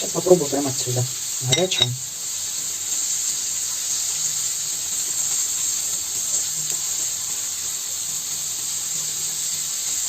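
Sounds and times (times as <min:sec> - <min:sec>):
fish sizzling in a pan: 0:00.0 - 0:10.0.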